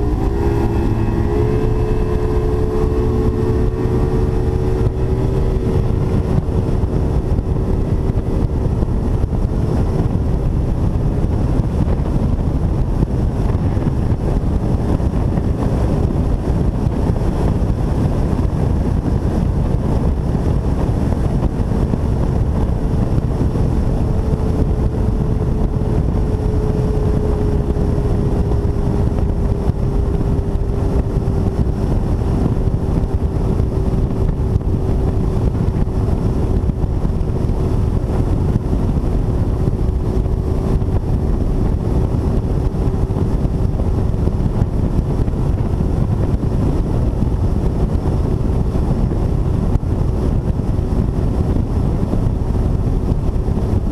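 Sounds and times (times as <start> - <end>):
outboard motor running: 0.0 - 53.9
wind buffeting microphone: 0.0 - 53.9.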